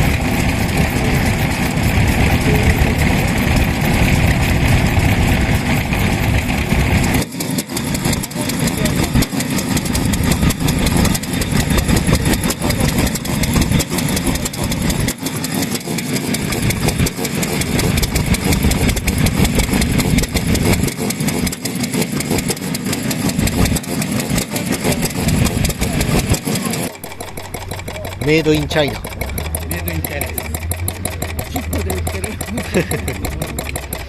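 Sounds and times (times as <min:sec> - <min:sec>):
small engine idling: 0:00.0 - 0:34.0.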